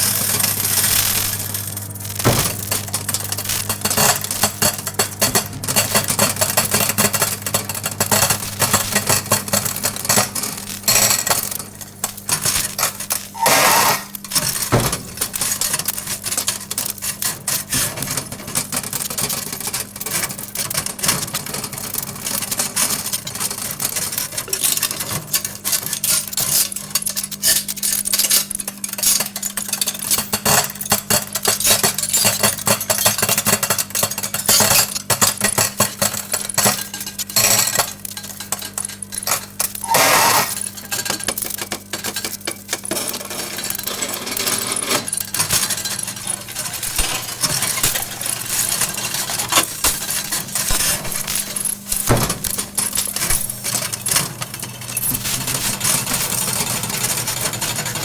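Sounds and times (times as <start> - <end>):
crackling sparks in microwave: 0.0 - 58.0
microwave oven humming: 0.0 - 58.0.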